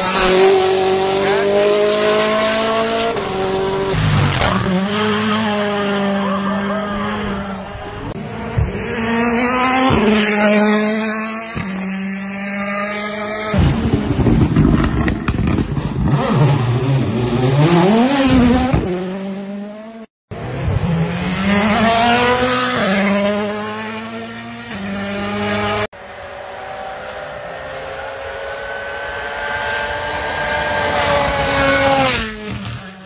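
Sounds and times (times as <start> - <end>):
rally car engines passing: 0.0 - 33.0.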